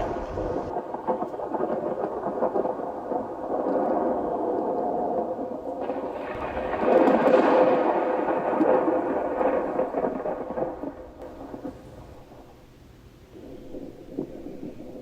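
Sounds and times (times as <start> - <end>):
thunder rolling: 0.0 - 15.0.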